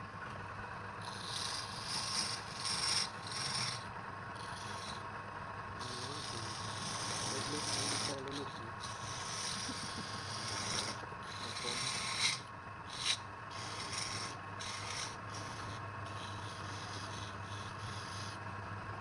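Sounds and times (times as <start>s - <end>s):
wood lathe humming: 0.8s - 18.7s
tool rasping on spinning wood: 1.0s - 5.1s, 5.8s - 18.4s.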